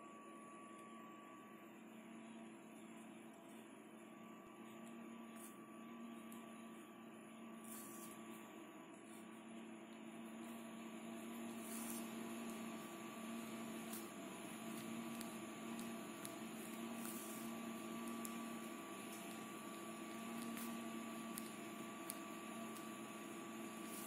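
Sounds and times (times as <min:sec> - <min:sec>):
faint high whine: 0:00.0 - 0:24.0
steady background hum: 0:00.0 - 0:24.0.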